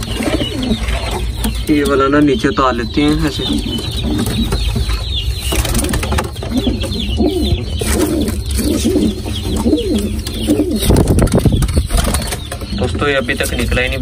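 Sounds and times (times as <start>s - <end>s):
birds chirping: 0.0s - 14.0s
pigeons cooing: 0.0s - 14.0s.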